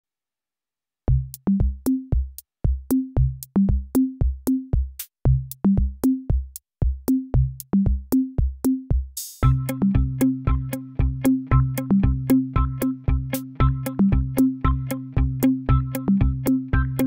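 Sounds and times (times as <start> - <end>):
bass line stepping up in pitch: 1.1 - 2.3, 2.9 - 6.4, 7.1 - 17.0
electronic drum-machine beat: 1.1 - 17.0.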